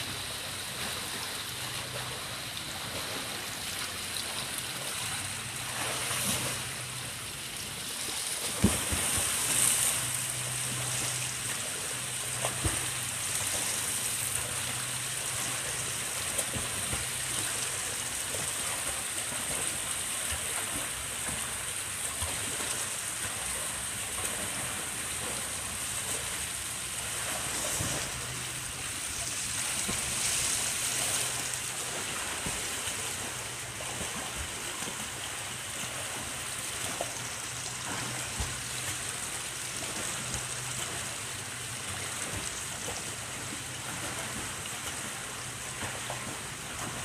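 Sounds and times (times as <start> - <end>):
water splashing from swimming: 0.0 - 47.0.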